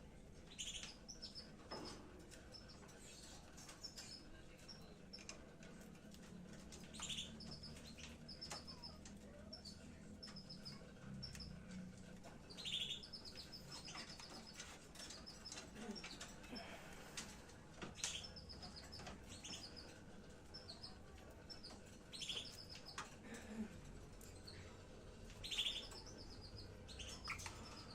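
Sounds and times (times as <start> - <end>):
lovebirds chirping: 0.4 - 5.3, 6.7 - 11.6, 12.4 - 23.6, 24.2 - 27.9.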